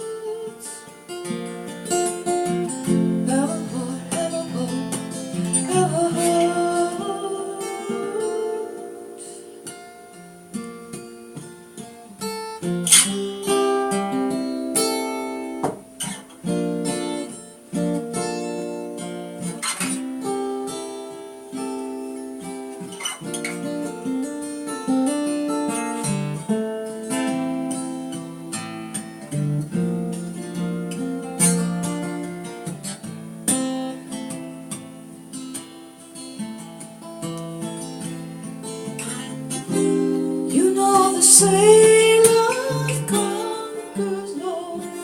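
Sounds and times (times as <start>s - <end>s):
acoustic guitar strumming and plucking: 0.0s - 45.0s.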